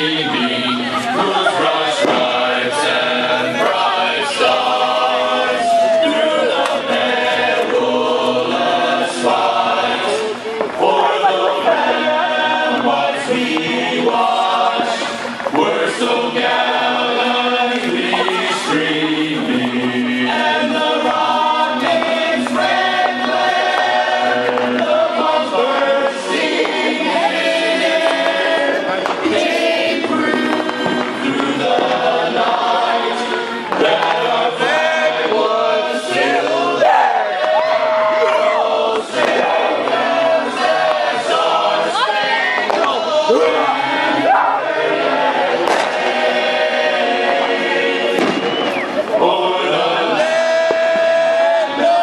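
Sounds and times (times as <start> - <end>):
many voices singing together: 0.0 - 52.0.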